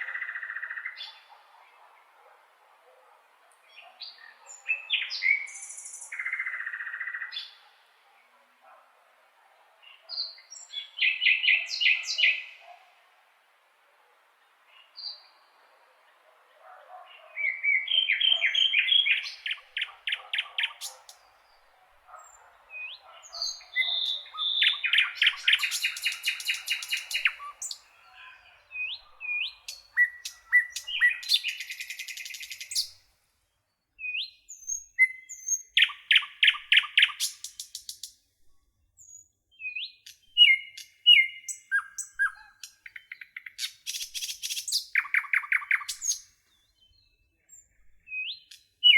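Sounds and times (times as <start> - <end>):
songbirds singing: 0.0 - 8.8, 9.8 - 13.1, 14.2 - 38.2, 39.0 - 48.9.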